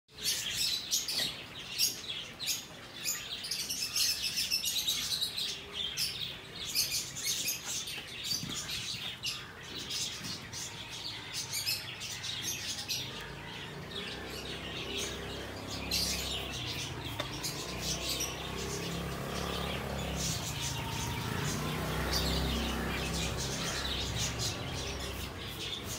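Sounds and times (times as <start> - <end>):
small birds chirping: 0.1 - 25.9.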